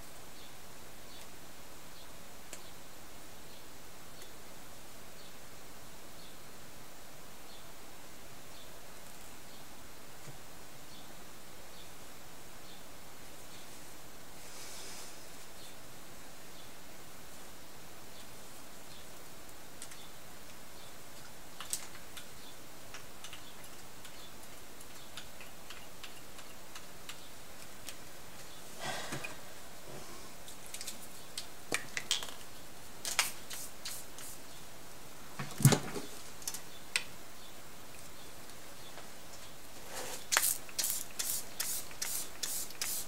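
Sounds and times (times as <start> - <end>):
steady low hiss: 0.0 - 43.0.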